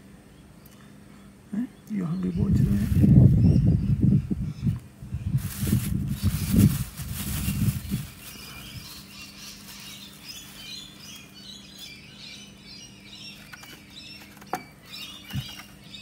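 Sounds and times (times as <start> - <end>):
birds chirping: 0.0 - 16.0
faint steady hum: 0.0 - 16.0.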